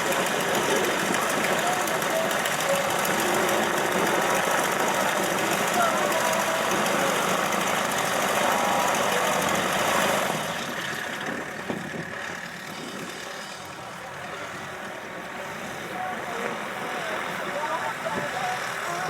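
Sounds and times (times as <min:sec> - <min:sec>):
faint voices: 0:00.0 - 0:19.0
propeller aircraft engine running: 0:00.0 - 0:19.0.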